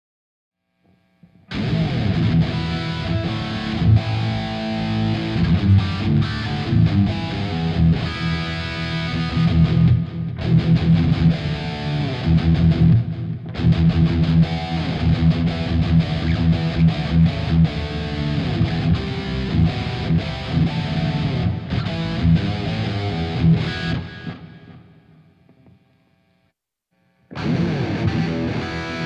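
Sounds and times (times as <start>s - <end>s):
electric guitar playing: 1.4s - 25.7s, 27.3s - 29.0s.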